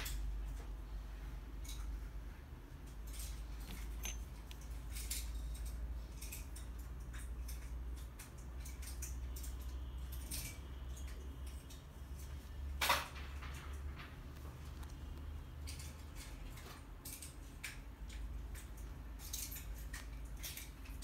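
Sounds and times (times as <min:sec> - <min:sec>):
handling clicks and rustles: 0:00.0 - 0:21.0
low steady hum: 0:00.0 - 0:21.0.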